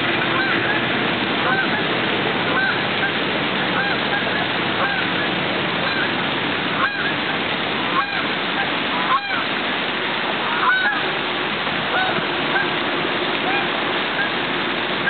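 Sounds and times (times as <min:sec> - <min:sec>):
geese honking: 0:00.0 - 0:07.3, 0:07.9 - 0:09.5, 0:10.4 - 0:11.1, 0:11.9 - 0:14.4
fountain splashing: 0:00.0 - 0:15.0.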